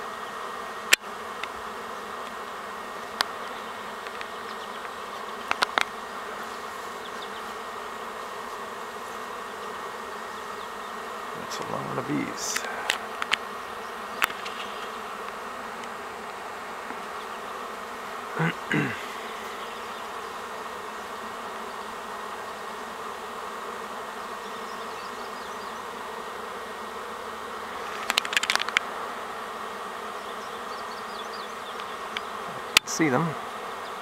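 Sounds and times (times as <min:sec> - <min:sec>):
bees buzzing: 0:00.0 - 0:34.0.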